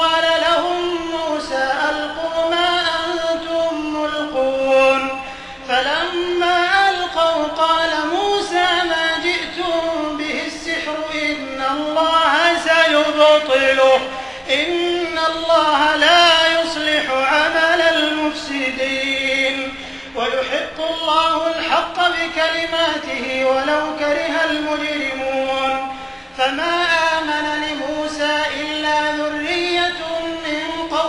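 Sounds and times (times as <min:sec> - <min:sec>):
man chanting recitation: 0:00.0 - 0:31.0.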